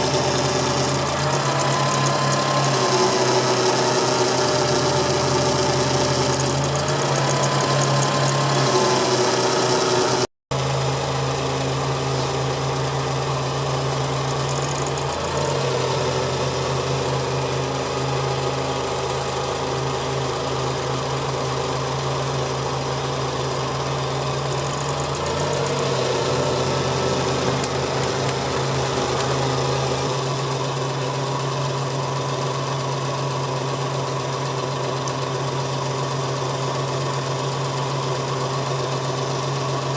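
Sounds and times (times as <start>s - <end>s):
small car engine humming: 0.0s - 39.9s.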